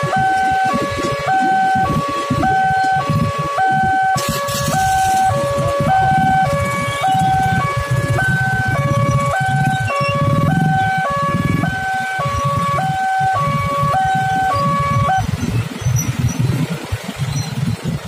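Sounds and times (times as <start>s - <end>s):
two-tone crossing alarm: 0.0s - 16.4s
motorcycle engines rumbling: 0.0s - 18.0s.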